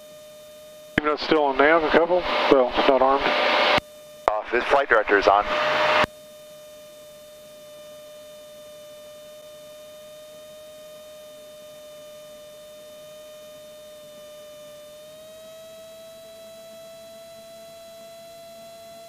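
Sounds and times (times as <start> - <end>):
steady electrical whine: 0.0 - 19.0.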